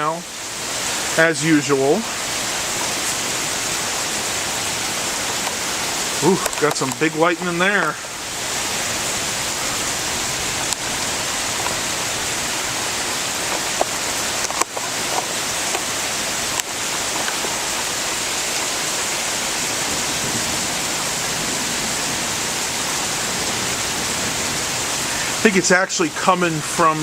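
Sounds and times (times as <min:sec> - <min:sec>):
steady rain hiss: 0:00.0 - 0:27.0.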